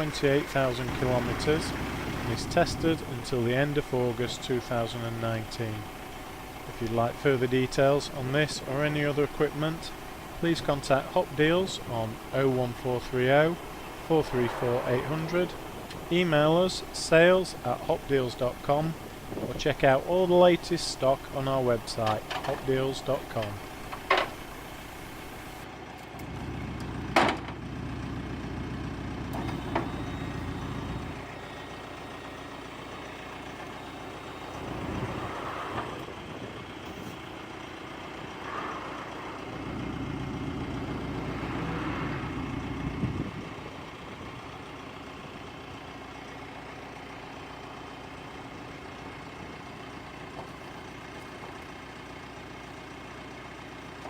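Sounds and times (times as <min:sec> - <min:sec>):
diesel lorry engine humming: 0:00.0 - 0:54.0.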